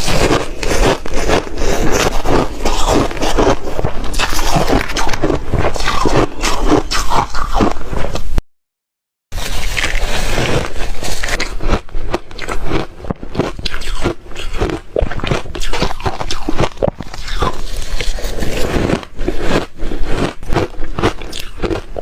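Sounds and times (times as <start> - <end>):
ice being chewed: 0.0 - 8.2, 9.4 - 22.0.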